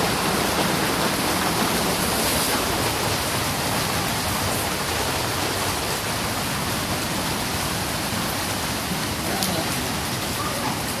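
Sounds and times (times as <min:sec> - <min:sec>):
heavy rain hiss: 0:00.0 - 0:11.0.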